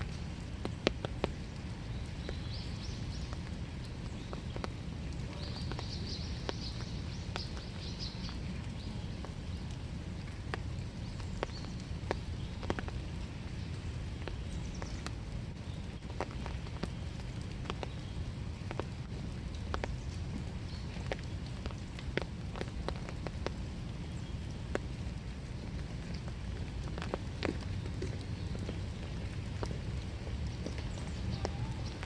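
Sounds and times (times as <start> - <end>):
birds twittering: 0.0 - 24.6, 26.9 - 32.0
raindrops tapping: 0.0 - 32.0
steady rain: 0.0 - 32.0.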